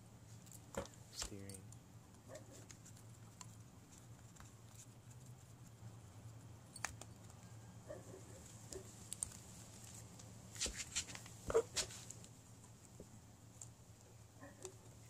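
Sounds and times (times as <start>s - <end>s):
steady low hum: 0.0s - 15.0s
small clicks and scraping: 0.3s - 13.8s.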